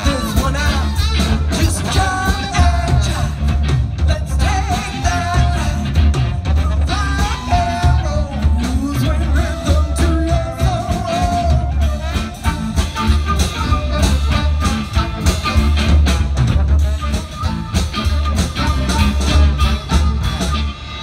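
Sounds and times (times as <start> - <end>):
live band playing swing ska: 0.0 - 21.0
steady drum beat: 0.0 - 21.0.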